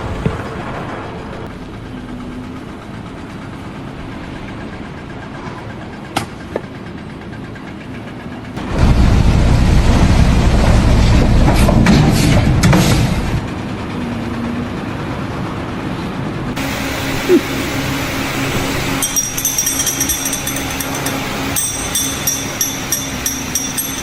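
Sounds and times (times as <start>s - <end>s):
engine running: 0.0s - 24.0s
loud deep engine rumble: 0.0s - 24.0s.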